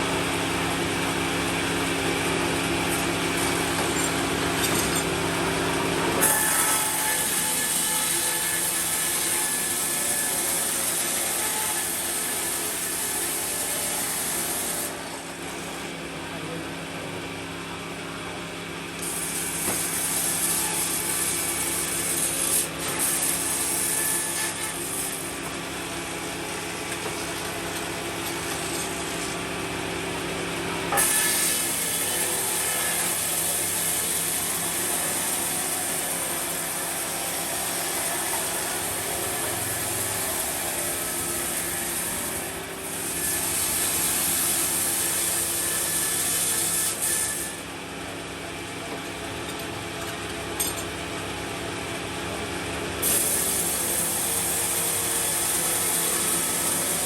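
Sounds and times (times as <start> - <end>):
saw cutting through wood: 0.5 - 16.0, 19.0 - 29.8, 30.8 - 47.8, 53.0 - 57.0.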